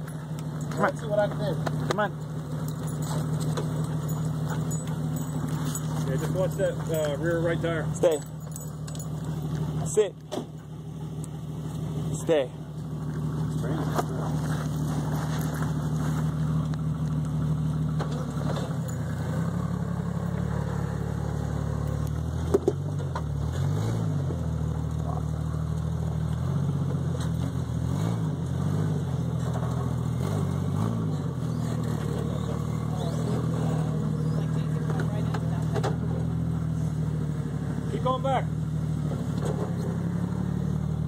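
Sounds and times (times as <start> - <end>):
engine revving at low revs: 0.0 - 41.0.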